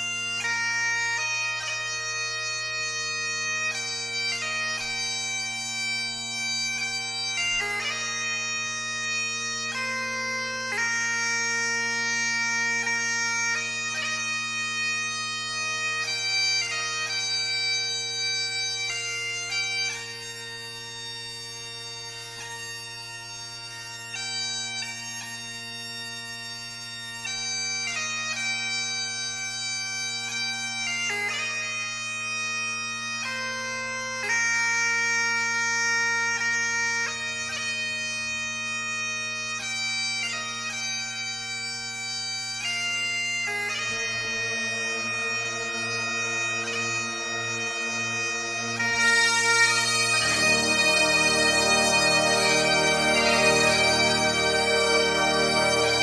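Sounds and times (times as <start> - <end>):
bagpipe music with drones: 0.0 - 56.0.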